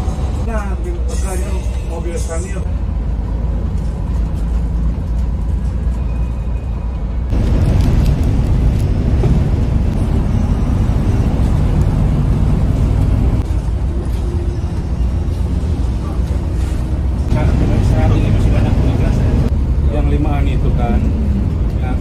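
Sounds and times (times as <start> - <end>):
coach engine rumble: 0.0 - 22.0
road noise: 0.0 - 22.0.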